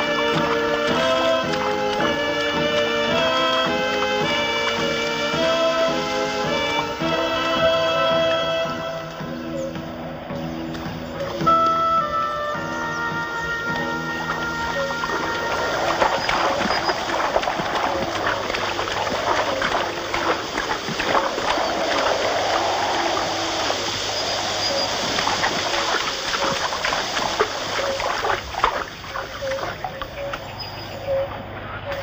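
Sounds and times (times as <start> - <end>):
people wading through water: 0.0 - 32.0.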